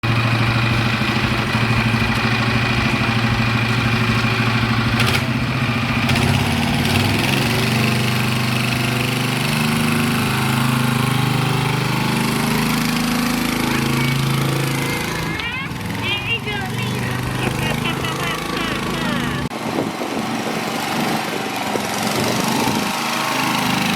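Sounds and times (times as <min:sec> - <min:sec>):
go-kart engine running: 0:00.0 - 0:23.9.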